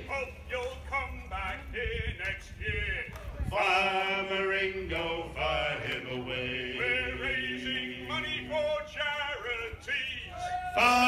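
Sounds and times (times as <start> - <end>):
men singing unaccompanied: 0.0 - 11.0.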